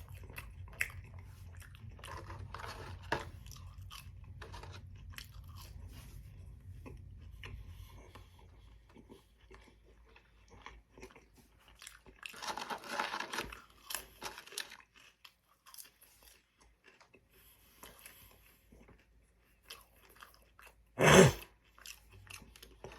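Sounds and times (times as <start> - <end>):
man chewing and crunching food: 0.0 - 22.9.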